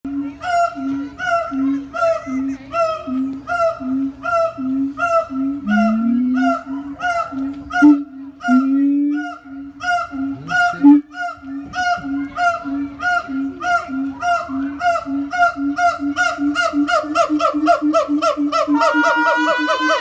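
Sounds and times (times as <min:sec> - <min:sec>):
monkey calling: 0:00.1 - 0:20.0.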